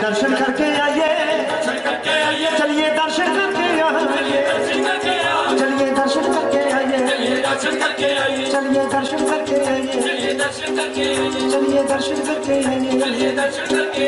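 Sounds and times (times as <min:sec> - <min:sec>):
dhol drum beat: 0:00.0 - 0:14.0
keyboard: 0:00.0 - 0:14.0
man singing into a microphone: 0:00.0 - 0:14.0.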